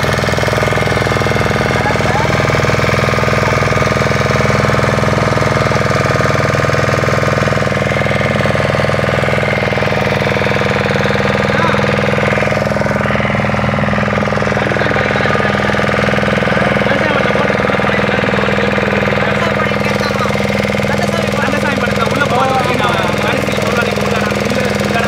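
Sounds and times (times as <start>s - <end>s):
boat engine knocking steadily: 0.0s - 25.0s.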